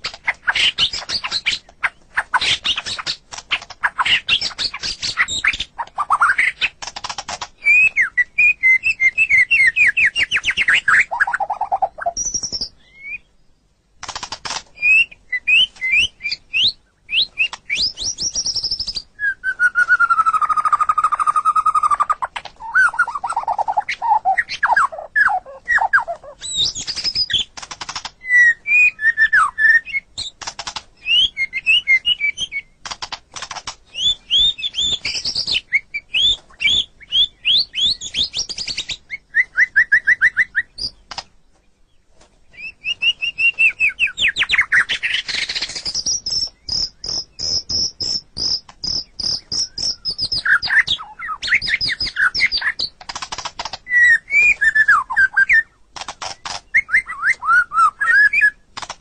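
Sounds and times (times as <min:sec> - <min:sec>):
songbird singing varied song: 0:00.0 - 0:13.8, 0:14.7 - 0:58.7.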